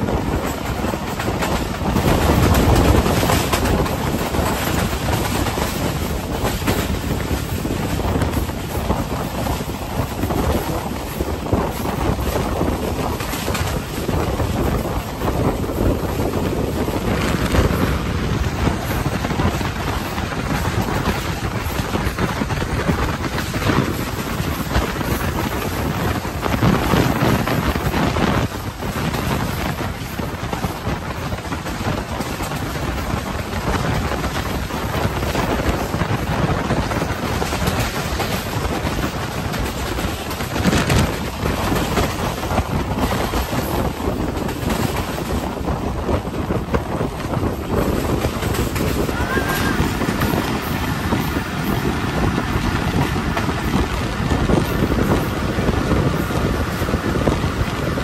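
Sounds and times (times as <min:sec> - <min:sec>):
train wheels rumbling on track: 0:00.0 - 0:58.0
wind buffeting microphone: 0:00.0 - 0:58.0.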